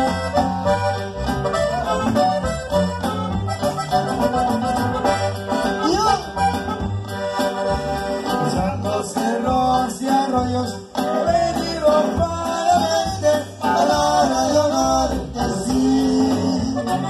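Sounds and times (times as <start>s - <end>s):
accordion melody: 0.0s - 17.0s
acoustic guitar: 0.0s - 17.0s
bass: 0.0s - 17.0s
drums with steady beat: 0.0s - 17.0s.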